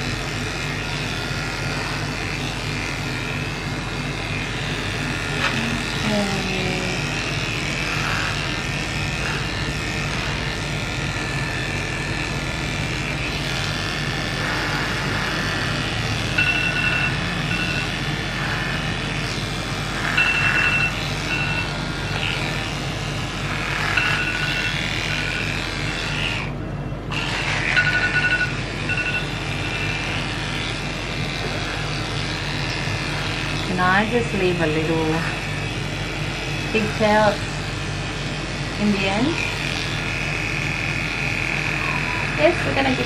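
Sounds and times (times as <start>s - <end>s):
electric clippers humming: 0.0s - 43.0s.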